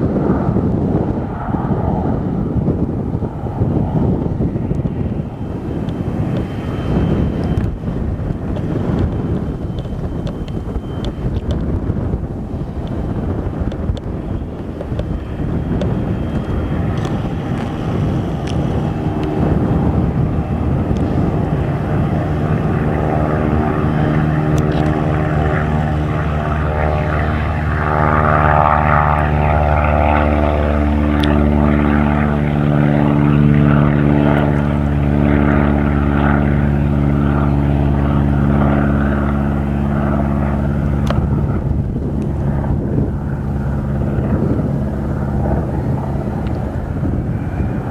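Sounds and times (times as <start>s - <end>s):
propeller airplane engine droning: 0.0s - 47.9s.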